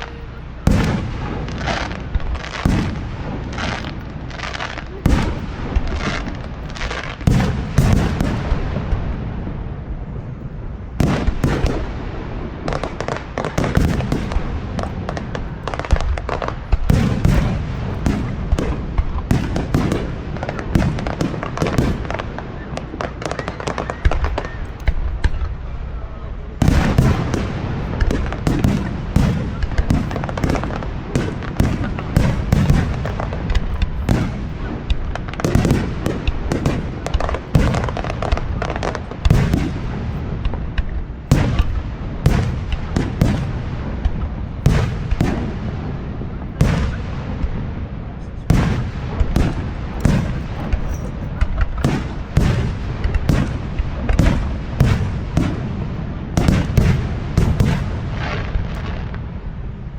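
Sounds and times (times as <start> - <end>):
fireworks booming and crackling: 0.0 - 59.9
steady low rumble: 0.0 - 59.9.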